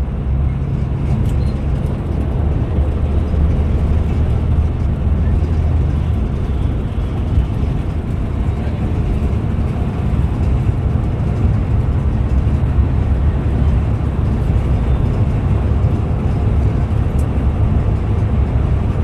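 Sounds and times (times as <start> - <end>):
bus engine and tyres rumbling: 0.0 - 19.0.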